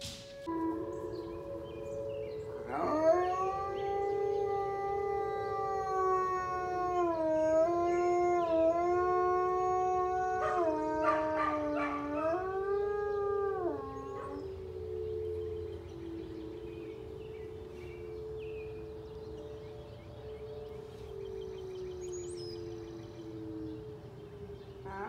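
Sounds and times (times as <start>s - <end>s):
siren steady tone: 0.0s - 25.0s
dog howling: 0.3s - 25.0s.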